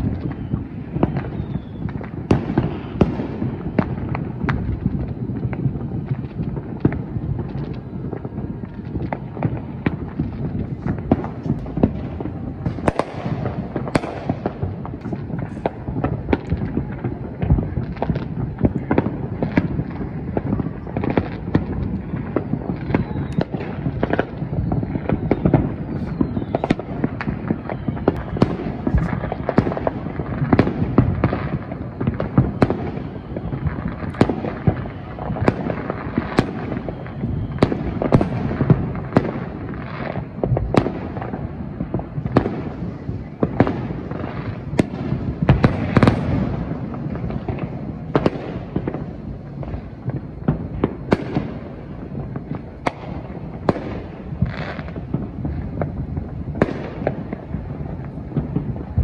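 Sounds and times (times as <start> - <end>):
fireworks bangs and pops: 0.0 - 59.0.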